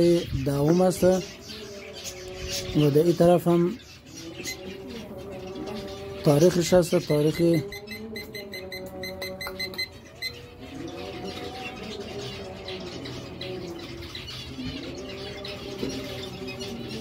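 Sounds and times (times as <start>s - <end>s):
high bird twittering: 0.0s - 17.0s.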